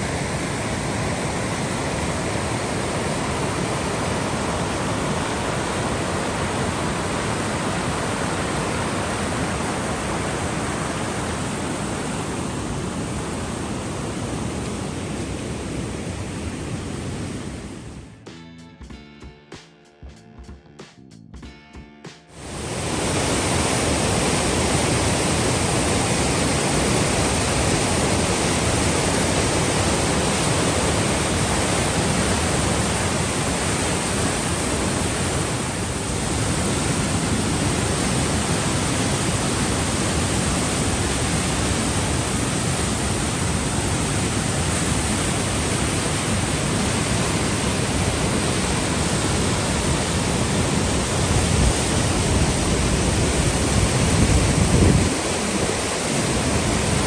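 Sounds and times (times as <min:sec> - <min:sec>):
rush of falling water: 0:00.0 - 0:17.9, 0:22.3 - 0:57.0.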